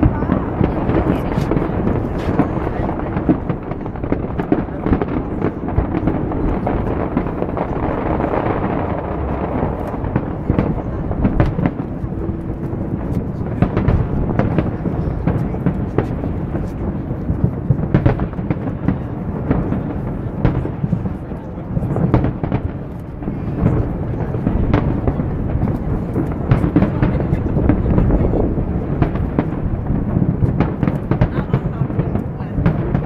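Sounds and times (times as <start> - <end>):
fireworks bangs and crackles: 0.0 - 33.0
low rumble of fireworks bursts: 0.0 - 33.0.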